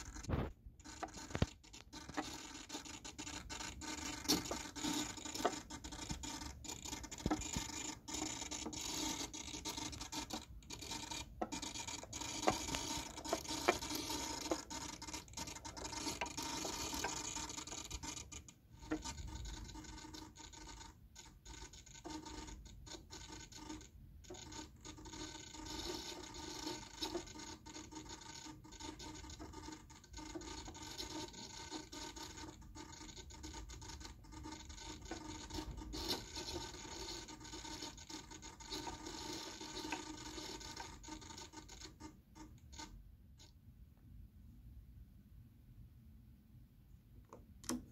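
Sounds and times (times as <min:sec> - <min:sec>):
ball clicking against wooden rails: 0:00.0 - 0:42.9
ball rolling on wooden board: 0:00.0 - 0:42.9
faint steady hum: 0:00.0 - 0:47.9.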